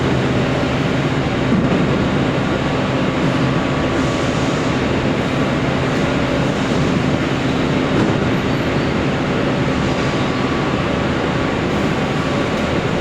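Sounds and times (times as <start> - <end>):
factory machinery running: 0.0 - 13.0.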